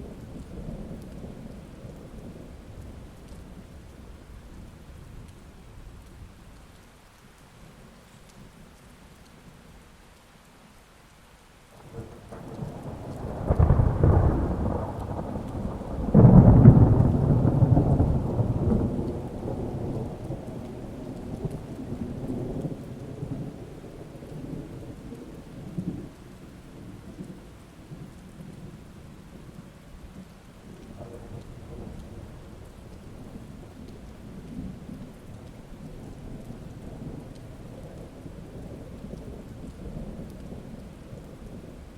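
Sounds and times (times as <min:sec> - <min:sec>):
thunder rumbling: 0:00.0 - 0:06.4, 0:11.8 - 0:41.9
steady rain: 0:00.0 - 0:41.9.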